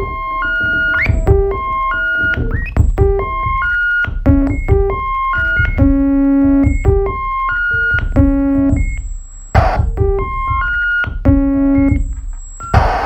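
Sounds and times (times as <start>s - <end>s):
low synth pulses: 0.0s - 12.0s
synthesizer notes looping: 0.0s - 13.0s.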